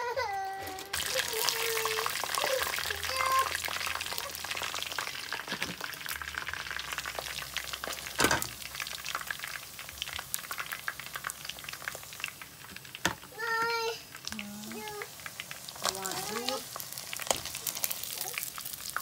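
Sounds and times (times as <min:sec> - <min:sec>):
chicken frying in oil: 0:00.2 - 0:19.0.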